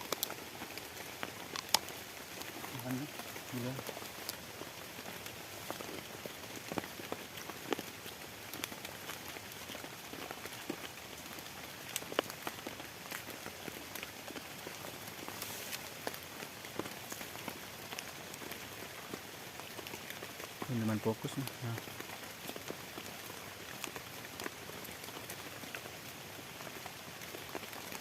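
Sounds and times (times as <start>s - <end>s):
heavy rain falling: 0.0s - 28.0s
raindrops striking close by: 0.0s - 28.0s.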